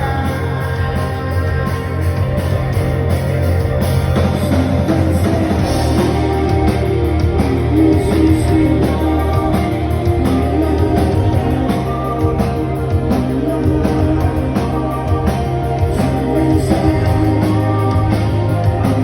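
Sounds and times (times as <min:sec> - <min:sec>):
live rock band: 0:00.0 - 0:19.0
melodic guitar line: 0:00.0 - 0:19.0
sustained bass notes: 0:00.0 - 0:19.0.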